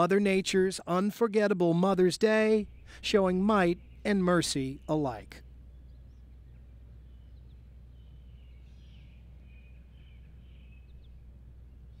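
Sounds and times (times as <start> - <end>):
distant birds chirping: 0.0 - 12.0
steady low rumble: 1.6 - 12.0.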